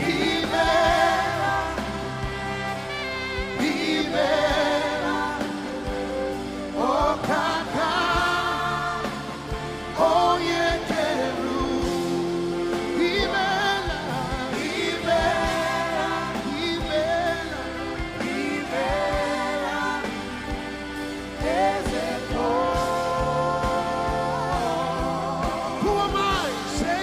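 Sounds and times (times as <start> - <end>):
gospel band playing: 0.0 - 27.0.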